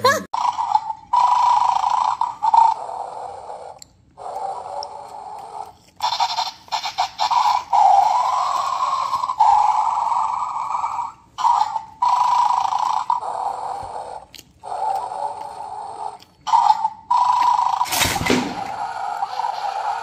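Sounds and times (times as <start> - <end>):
electronic toy growling: 0.0 - 20.0.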